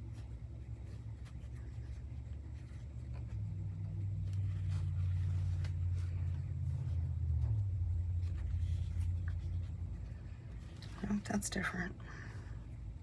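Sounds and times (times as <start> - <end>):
fabric rustling: 0.0 - 13.0
low steady rumble: 0.0 - 13.0.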